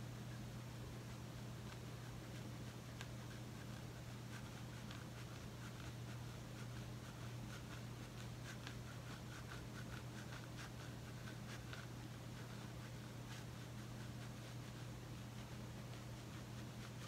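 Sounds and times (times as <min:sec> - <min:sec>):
comb scratching through hair: 0:00.0 - 0:17.0
steady low hum: 0:00.0 - 0:17.0.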